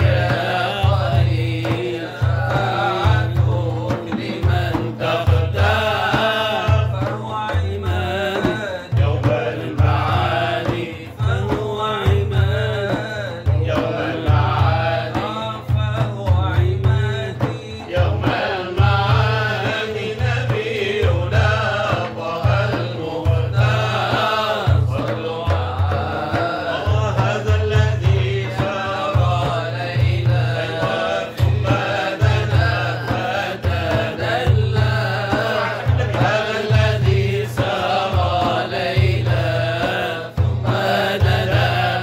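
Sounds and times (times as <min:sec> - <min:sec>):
men chanting: 0:00.0 - 0:42.0.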